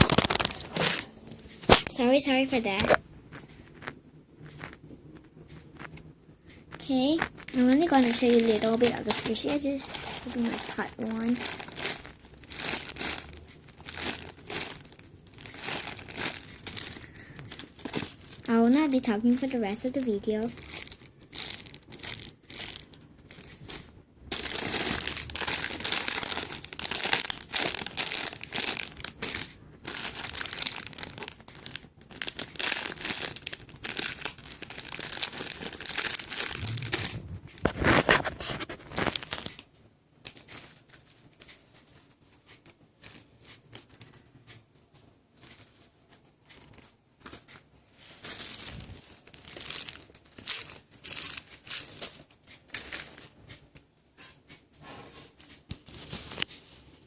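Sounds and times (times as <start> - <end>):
foam toys crinkling and rustling: 0.0 - 4.9, 5.6 - 44.3, 45.4 - 53.6, 55.1 - 57.0.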